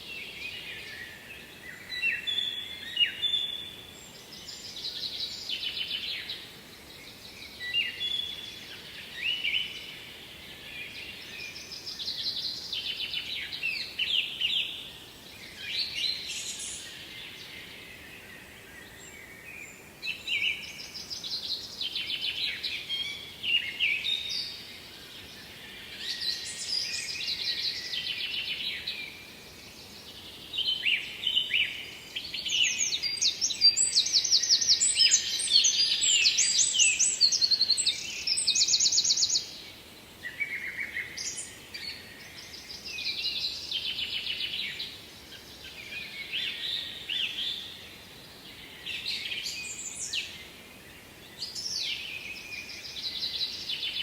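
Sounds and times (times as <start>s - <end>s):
faint background noise: 0.0s - 54.0s
songbirds singing: 0.0s - 54.0s.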